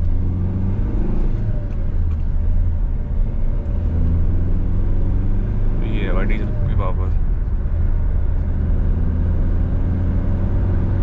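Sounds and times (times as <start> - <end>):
car cabin engine and tyre drone: 0.0 - 11.0.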